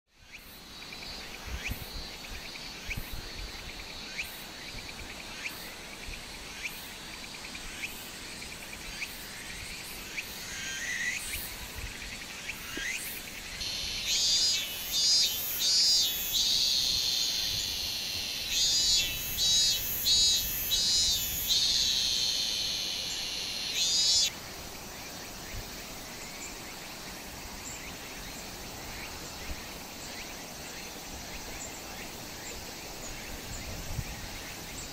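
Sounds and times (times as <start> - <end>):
steady high insect hum: 0.1 - 34.9
cicadas buzzing: 0.2 - 34.9.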